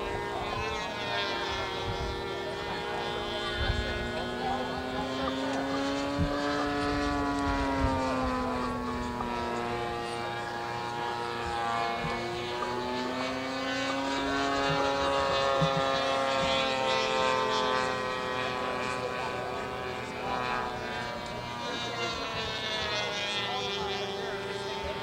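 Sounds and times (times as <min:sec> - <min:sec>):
model airplane engine running: 0:00.0 - 0:25.0
second model engine: 0:00.0 - 0:25.0.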